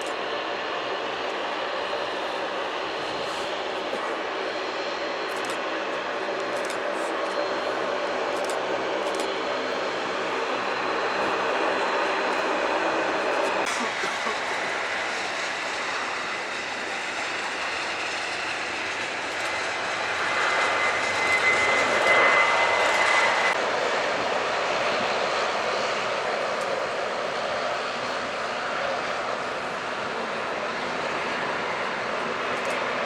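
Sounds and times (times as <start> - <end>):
airliner engines passing: 0.0 - 33.0.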